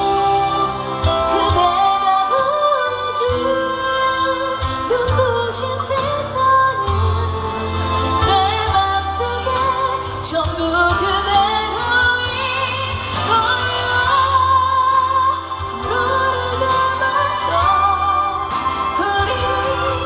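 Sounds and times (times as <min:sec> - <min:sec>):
band playing: 0:00.0 - 0:20.0
woman singing pop ballad: 0:00.0 - 0:20.0.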